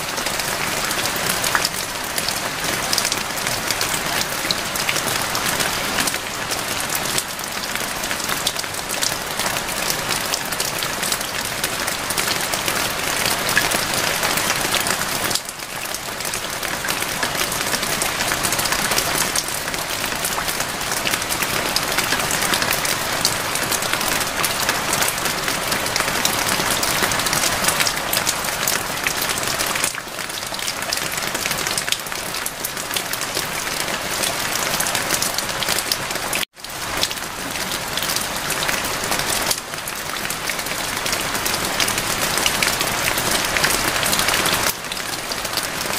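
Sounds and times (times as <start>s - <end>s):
steady rainfall: 0.0s - 45.9s.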